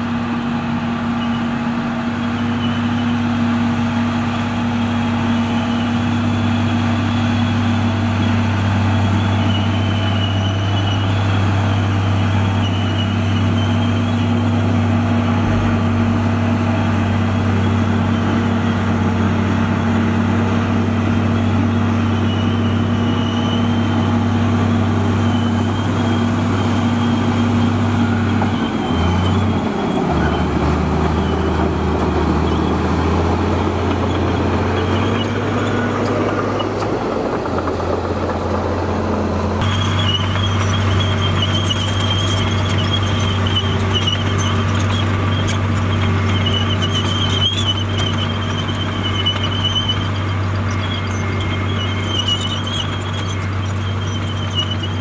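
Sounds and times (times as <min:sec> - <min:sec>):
diesel engine under load: 0:00.0 - 0:55.0
high wavering squeal: 0:05.2 - 0:55.0.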